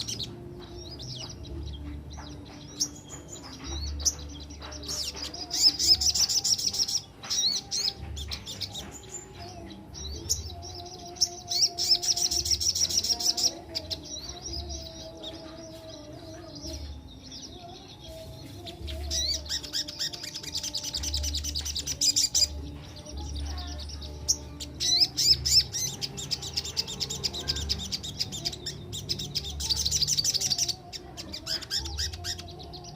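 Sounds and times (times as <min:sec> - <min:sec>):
bird singing rapid high trills: 0:00.0 - 0:32.9.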